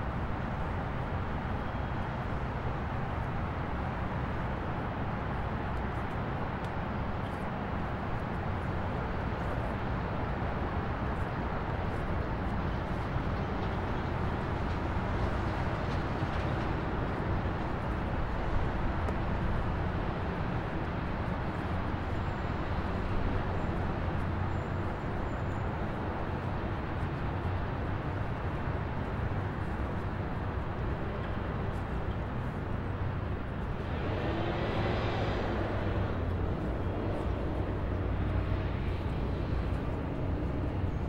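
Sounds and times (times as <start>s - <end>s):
vehicle road noise: 0.0s - 41.0s.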